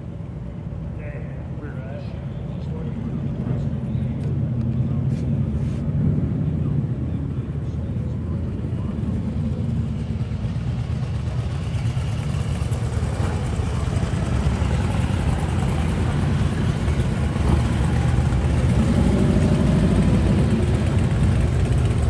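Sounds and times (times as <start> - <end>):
low traffic rumble: 0.0 - 22.0.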